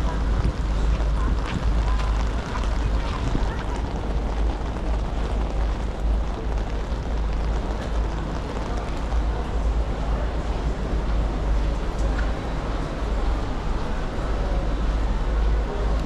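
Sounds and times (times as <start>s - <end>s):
rain hiss: 0.0s - 16.0s
wind rumble on microphone: 0.0s - 16.0s.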